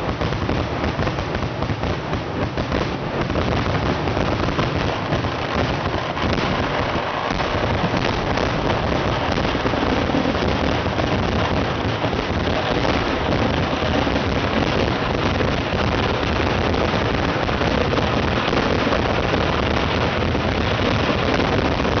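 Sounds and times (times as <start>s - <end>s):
fireworks barrage: 0.0s - 22.0s.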